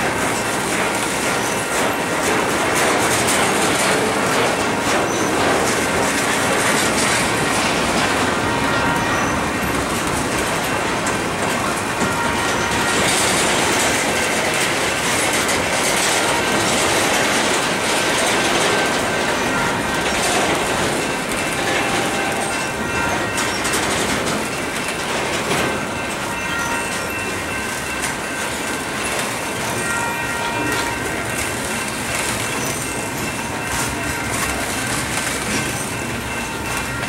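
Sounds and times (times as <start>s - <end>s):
train wheels clattering over track: 0.0s - 37.0s.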